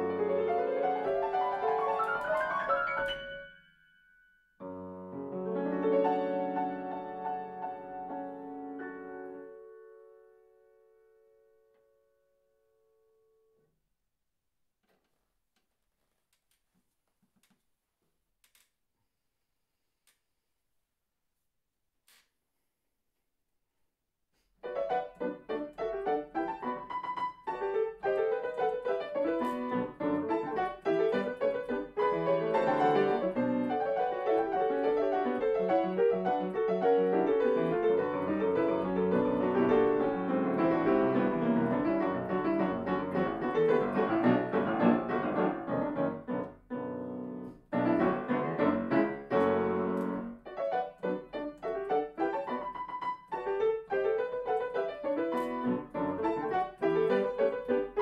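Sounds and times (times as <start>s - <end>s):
solo piano classical piece: 0.0s - 13.6s, 24.6s - 58.0s.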